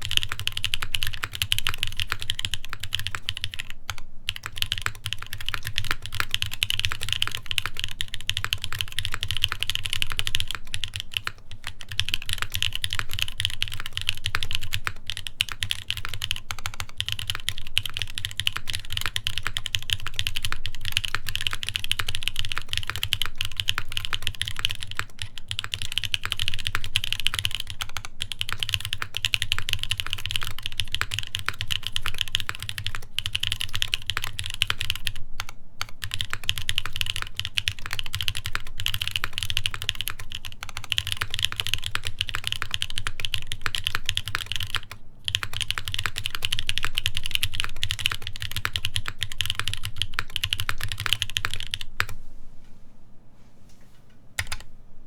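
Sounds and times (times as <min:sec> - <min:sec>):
mechanical keyboard typing: 0:00.0 - 0:52.2, 0:54.4 - 0:54.7.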